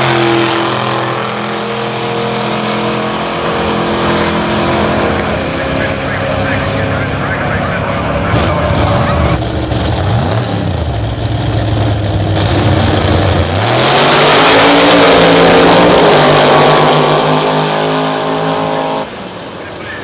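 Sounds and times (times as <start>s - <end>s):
drag car engines revving: 0.0s - 20.0s.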